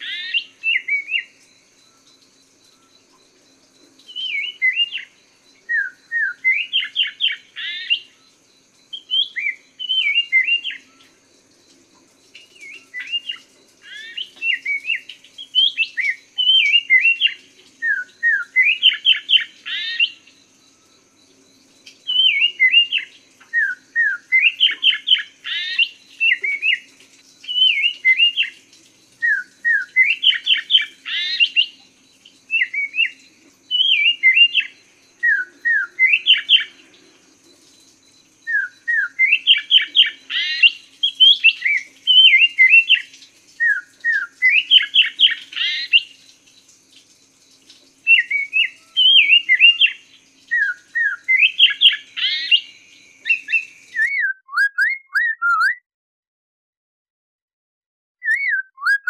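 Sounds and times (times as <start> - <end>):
bird singing whistled phrases: 0.0 - 2.1, 4.0 - 8.3, 8.9 - 11.2, 12.4 - 21.0, 21.8 - 37.0, 37.8 - 46.2, 48.0 - 55.8, 58.2 - 59.0.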